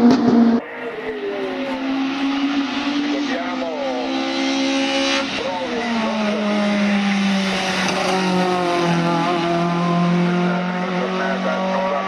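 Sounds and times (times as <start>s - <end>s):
racing engine at high revs: 0.0s - 12.0s.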